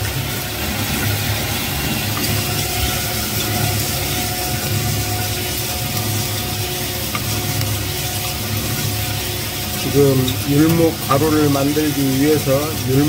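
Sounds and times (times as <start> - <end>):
motor hum: 0.0 - 13.0
seeds hissing in hot pan: 0.0 - 13.0.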